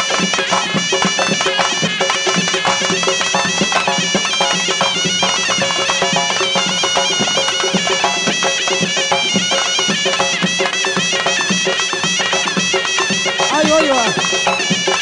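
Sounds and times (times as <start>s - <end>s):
bagpipe melody over drone: 0.0s - 15.0s
hand drums beating: 0.0s - 15.0s.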